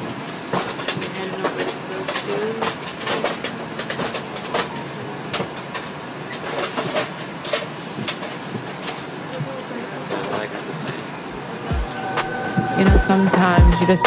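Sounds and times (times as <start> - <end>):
airliner cabin hiss and hum: 0.0 - 14.0.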